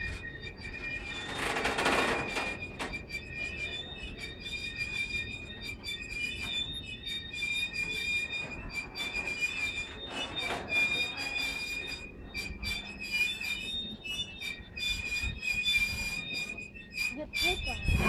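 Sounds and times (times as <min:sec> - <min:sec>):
train wheels squealing on rail: 0:00.0 - 0:18.0.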